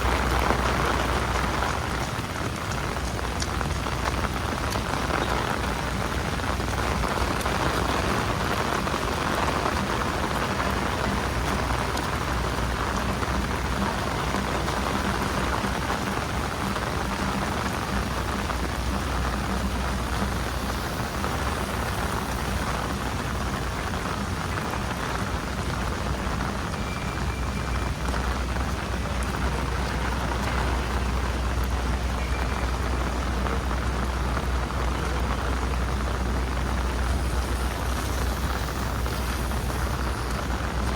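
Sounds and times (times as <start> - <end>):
rain hissing on street: 0.0 - 40.9.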